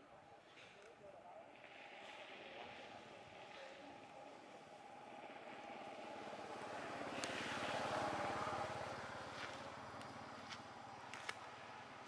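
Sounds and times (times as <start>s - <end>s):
vehicle engine passing by: 1.5s - 12.0s.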